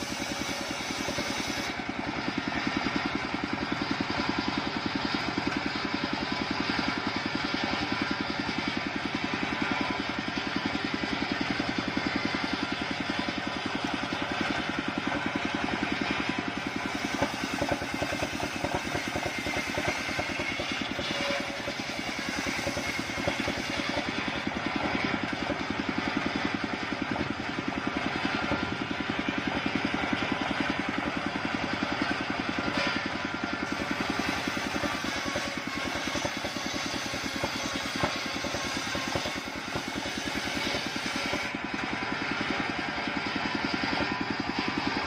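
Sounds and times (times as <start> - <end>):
engine running steadily: 0.0 - 45.0
saw blade cutting wood: 0.0 - 45.0.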